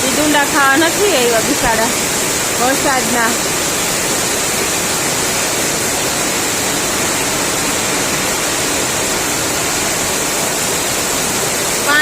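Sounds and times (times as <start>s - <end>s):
torrential rain: 0.0s - 12.0s.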